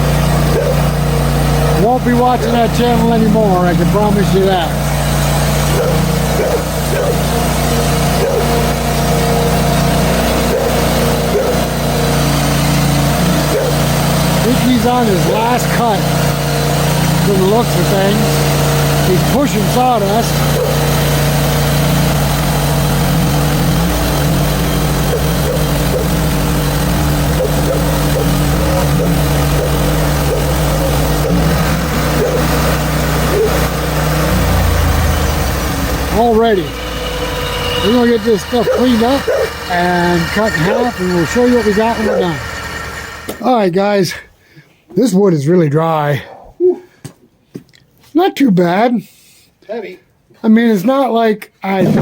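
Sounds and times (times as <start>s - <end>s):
saw cutting log: 0.0s - 43.7s, 51.8s - 52.0s
sawmill engine running: 0.0s - 44.0s, 51.8s - 52.0s.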